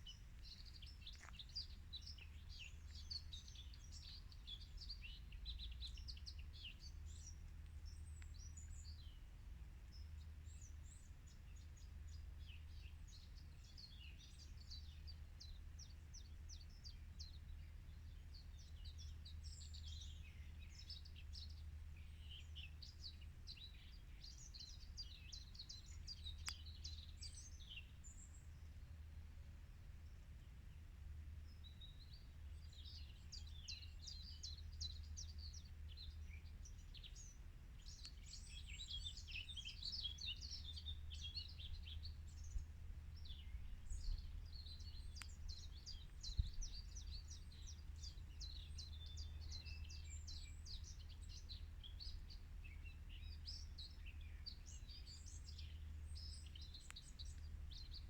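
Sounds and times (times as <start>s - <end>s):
small birds chirping: 0.0s - 29.5s, 31.4s - 58.0s
faint low rumble: 0.0s - 58.0s.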